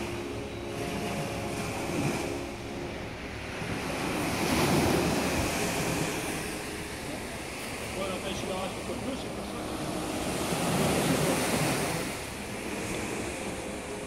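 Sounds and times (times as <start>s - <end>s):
waves breaking on sand: 0.0s - 14.0s.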